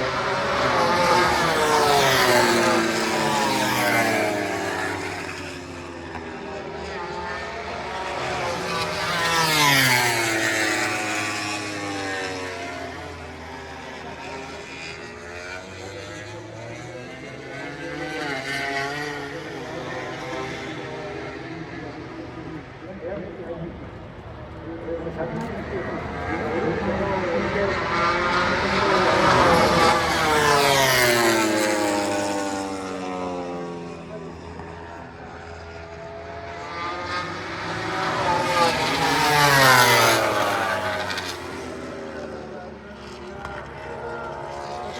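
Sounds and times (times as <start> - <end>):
racing motorcycle passing at speed: 0.0 - 44.9.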